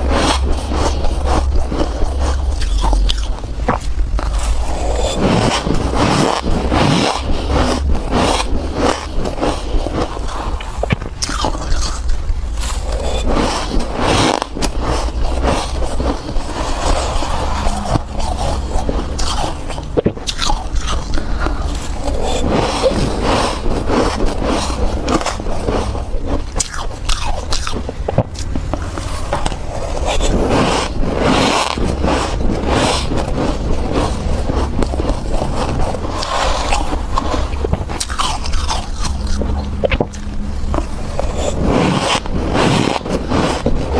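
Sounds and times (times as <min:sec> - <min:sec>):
ice being crunched and chewed: 0:00.0 - 0:43.9.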